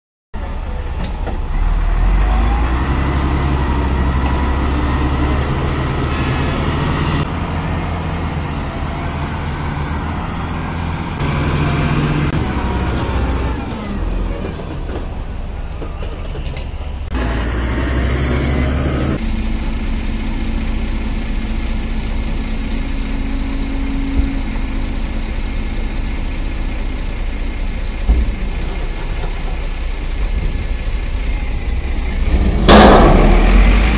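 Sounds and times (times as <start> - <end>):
excavator diesel engine: 0.4 - 33.9.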